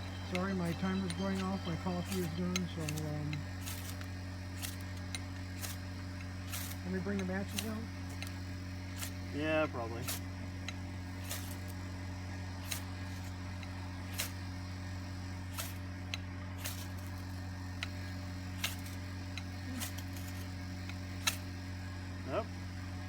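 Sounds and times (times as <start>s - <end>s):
ferro rod scraping: 0.0s - 9.3s, 10.0s - 11.8s, 12.6s - 14.5s, 15.4s - 21.5s
steady low hum: 0.0s - 23.0s.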